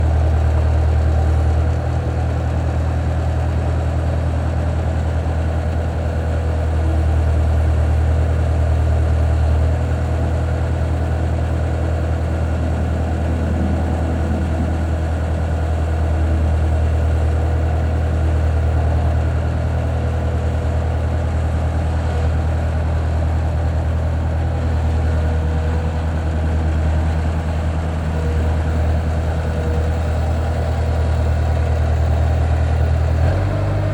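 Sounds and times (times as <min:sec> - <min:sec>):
loader diesel engine idling: 0:00.0 - 0:33.9.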